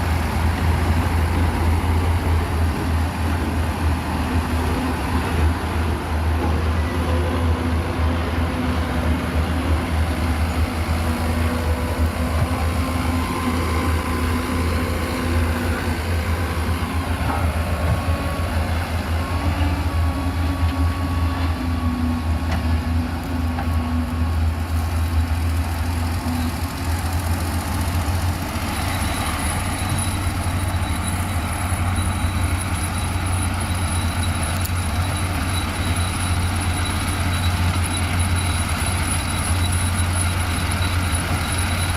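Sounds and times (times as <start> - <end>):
heavy machinery engine drone: 0.0 - 41.9.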